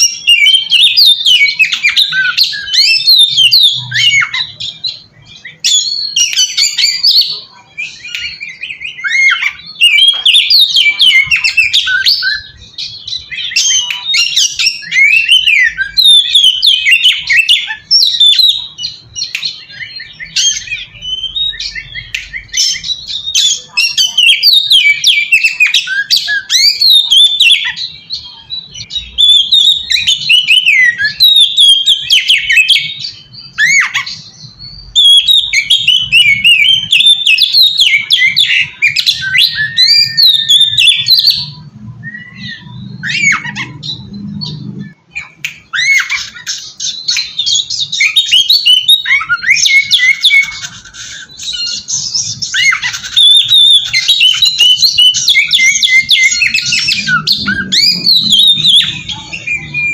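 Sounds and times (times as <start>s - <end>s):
songbird whistles and chatters: 0.0s - 59.9s.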